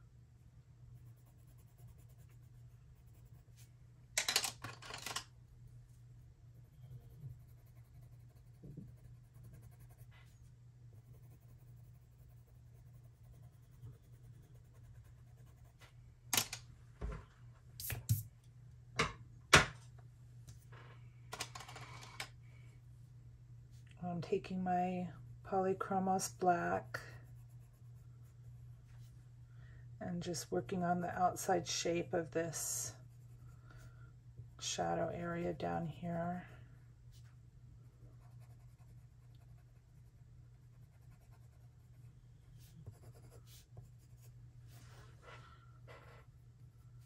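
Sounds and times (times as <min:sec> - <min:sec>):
steady low hum: 0:00.0 - 0:04.2, 0:05.2 - 0:47.0.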